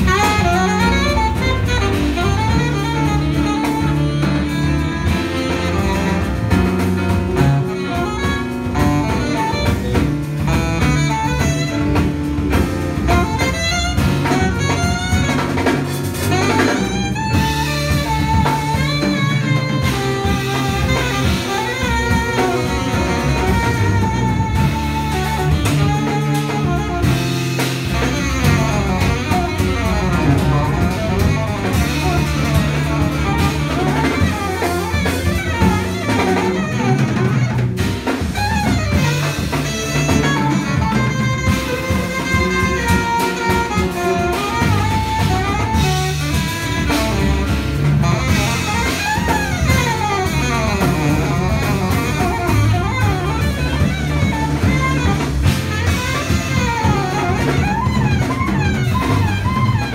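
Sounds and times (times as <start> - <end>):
alto saxophone melody: 0.0 - 59.9
drum kit: 0.0 - 59.9.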